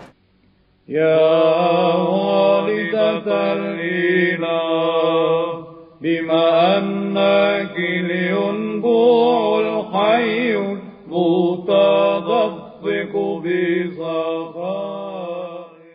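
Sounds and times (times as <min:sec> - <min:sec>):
held vocal drone: 0:00.9 - 0:15.9.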